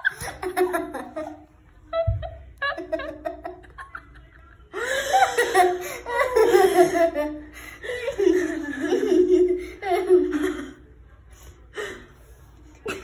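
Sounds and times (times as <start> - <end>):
girls laughing: 0.0 - 10.8.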